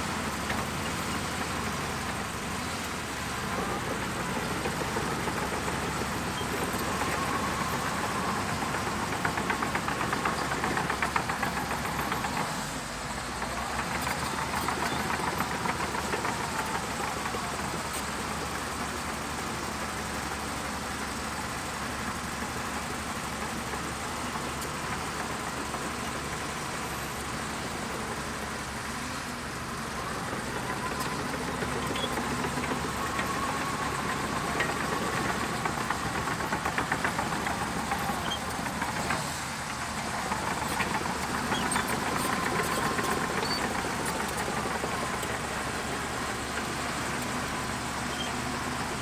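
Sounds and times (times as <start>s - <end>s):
bulldozer diesel engine running: 0.0s - 49.0s.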